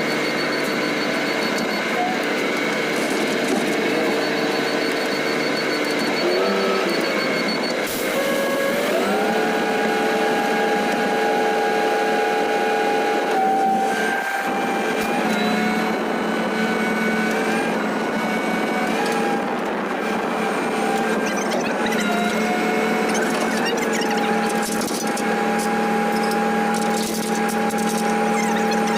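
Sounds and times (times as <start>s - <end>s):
truck engine whining: 0.0s - 28.9s.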